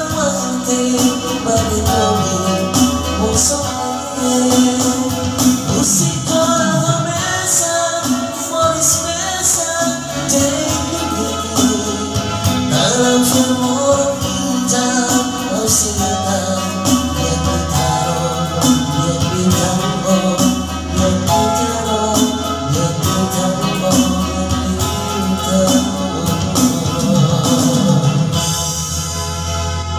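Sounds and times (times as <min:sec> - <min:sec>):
percussion beat: 0:00.0 - 0:29.0
man singing into a microphone: 0:00.0 - 0:29.3
electronic keyboard chords: 0:00.0 - 0:29.9.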